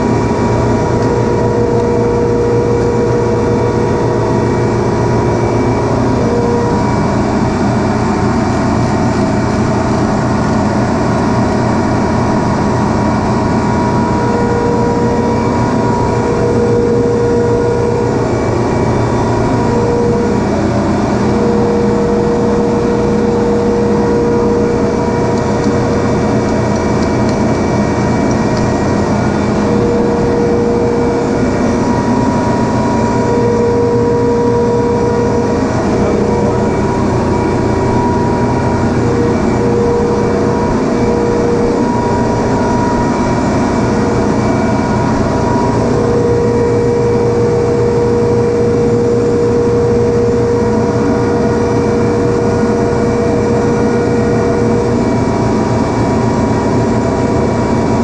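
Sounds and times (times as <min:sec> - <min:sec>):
high mechanical whine: 0:00.0 - 0:58.0
refrigeration compressor drone: 0:00.0 - 0:58.0.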